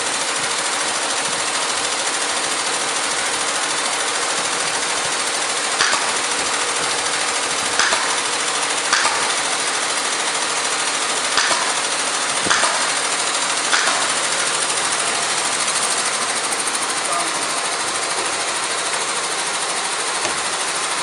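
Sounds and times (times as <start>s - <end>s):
steady loud mechanical noise: 0.0s - 21.0s.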